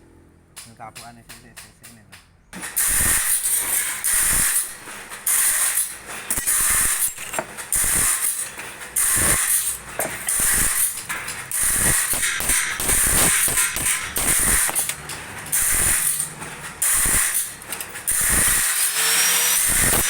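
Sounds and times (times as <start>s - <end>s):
grinding hiss of sharpening machine: 2.6s - 20.0s.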